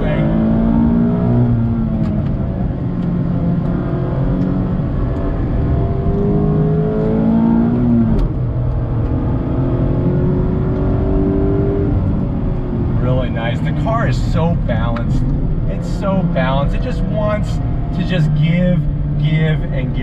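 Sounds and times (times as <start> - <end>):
car engine pulling hard: 0.0 - 20.0.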